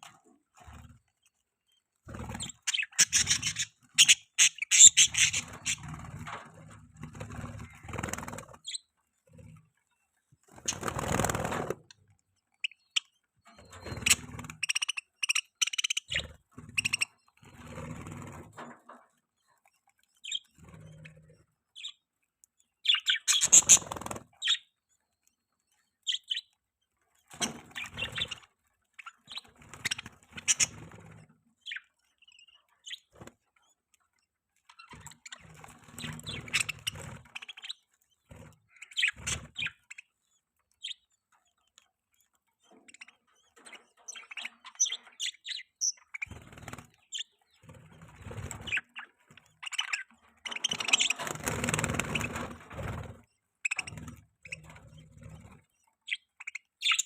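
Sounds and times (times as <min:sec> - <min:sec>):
budgerigars chirping and chattering: 0:02.1 - 0:06.4, 0:07.0 - 0:09.0, 0:10.5 - 0:11.8, 0:12.5 - 0:22.1, 0:22.8 - 0:25.2, 0:25.8 - 0:26.6, 0:27.3 - 0:57.0.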